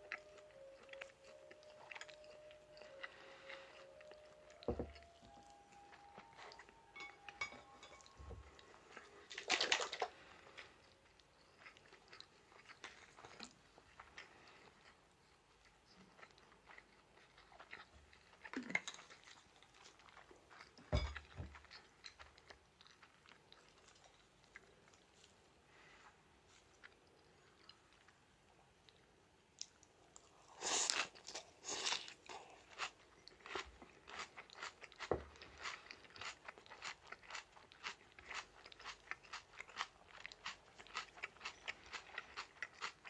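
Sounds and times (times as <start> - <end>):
chewing and crunching: 0.0 - 43.0.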